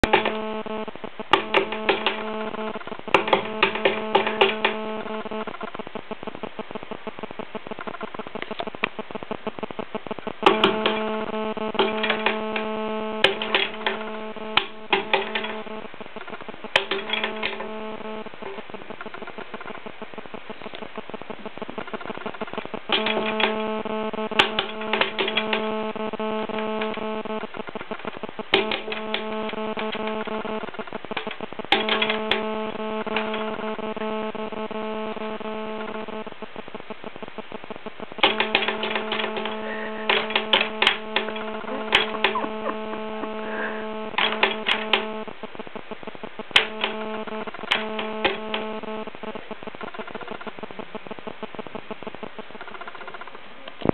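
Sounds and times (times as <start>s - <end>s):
crackling clicks: 0.0s - 53.9s
electrical hum: 0.0s - 53.9s.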